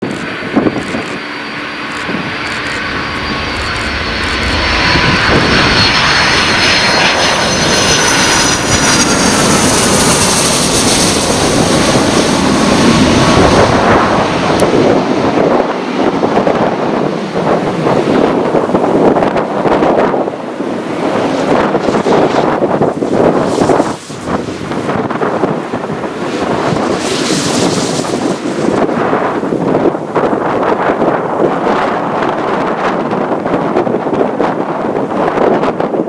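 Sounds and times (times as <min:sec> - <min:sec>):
whining fan tone: 0:00.0 - 0:30.2
jet engines roaring: 0:00.0 - 0:36.0.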